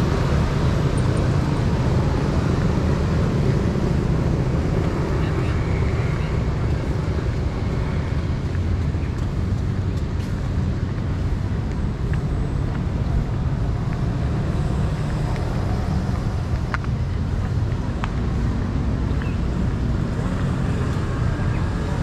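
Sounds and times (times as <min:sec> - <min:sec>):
low rumble of traffic: 0:00.0 - 0:22.0.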